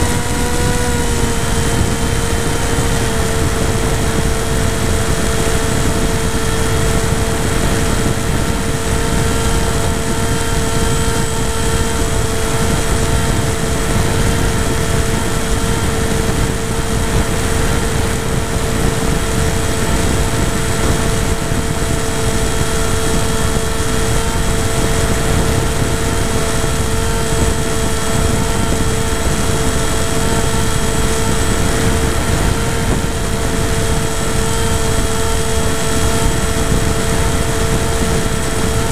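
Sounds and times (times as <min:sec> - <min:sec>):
electric motor and propeller whine: 0:00.0 - 0:38.9
wind rush on microphone: 0:00.0 - 0:38.9.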